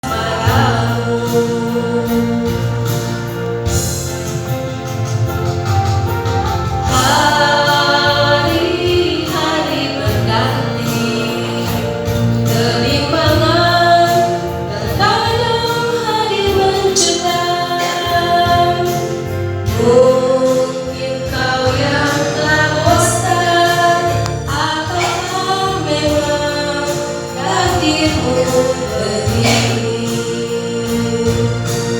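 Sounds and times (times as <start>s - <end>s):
woman singing worship song: 0.0s - 3.8s, 6.8s - 31.9s.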